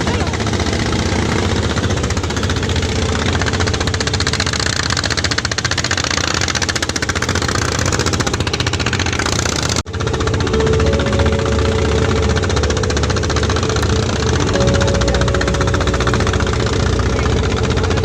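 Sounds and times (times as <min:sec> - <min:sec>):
small boat engine knocking: 0:00.0 - 0:18.0.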